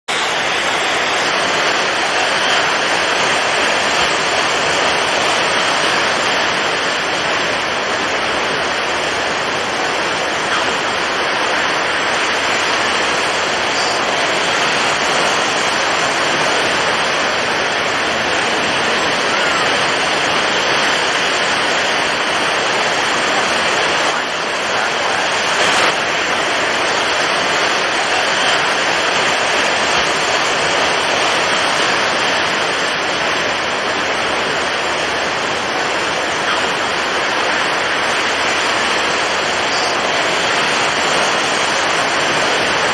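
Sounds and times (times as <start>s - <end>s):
heavy waves: 0.0s - 42.9s
strong wind: 0.0s - 42.9s.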